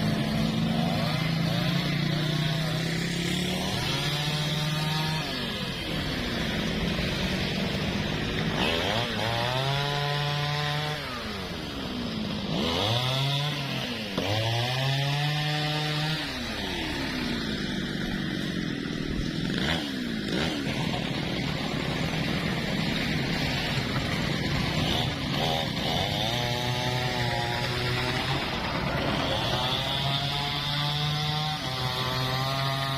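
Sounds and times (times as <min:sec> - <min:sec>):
chainsaw revving: 0:00.0 - 0:32.9.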